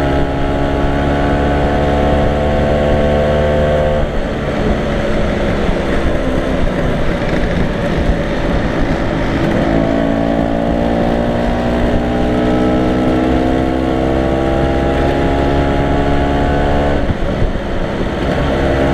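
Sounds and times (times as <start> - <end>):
scooter engine while riding: 0.0 - 18.9
wind noise on microphone: 0.0 - 18.9.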